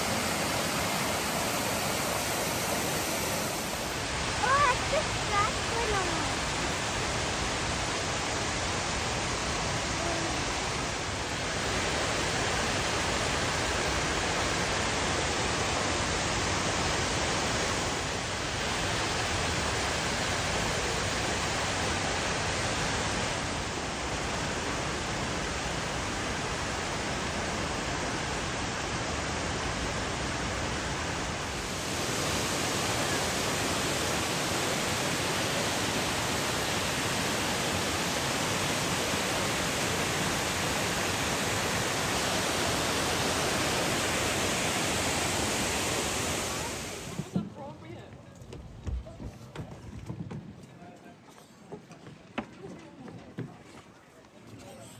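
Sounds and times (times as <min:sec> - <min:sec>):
waterfall rushing: 0:00.0 - 0:47.3.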